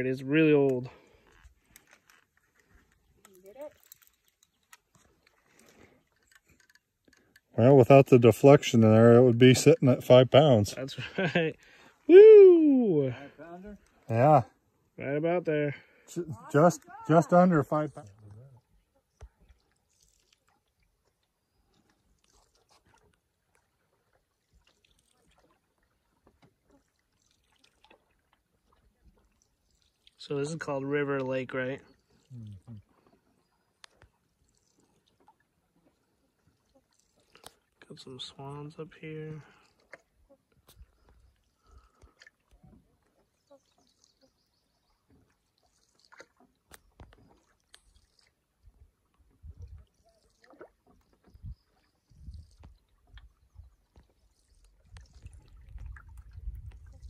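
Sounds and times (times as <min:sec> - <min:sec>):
paddle dripping and splashing: 0:00.0 - 0:15.0, 0:15.7 - 0:57.0.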